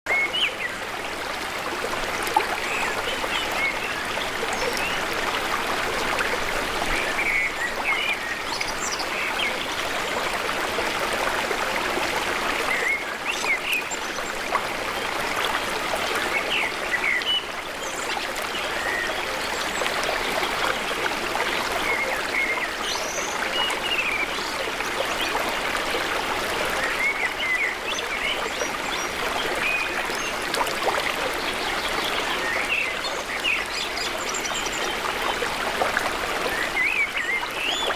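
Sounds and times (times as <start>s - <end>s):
river water flowing: 0.1s - 37.9s.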